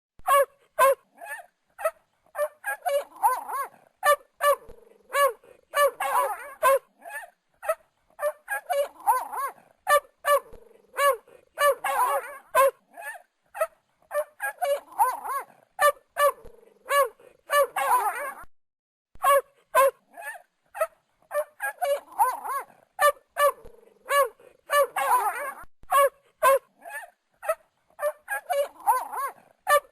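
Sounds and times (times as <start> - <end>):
dogs barking: 0.3 - 18.5, 19.2 - 29.9.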